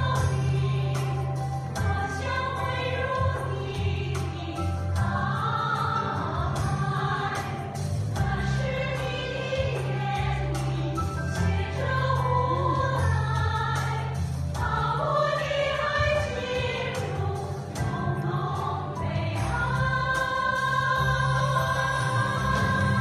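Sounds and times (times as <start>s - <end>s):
women singing in harmony: 0.0s - 23.0s.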